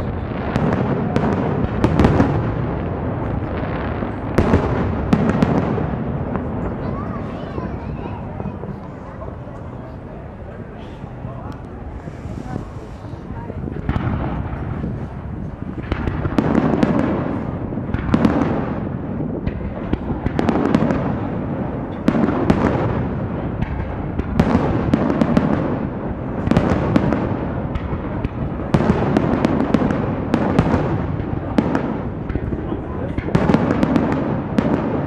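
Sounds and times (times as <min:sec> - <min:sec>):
deep firework bangs: 0:00.0 - 0:35.0
firework crackling: 0:00.0 - 0:35.0.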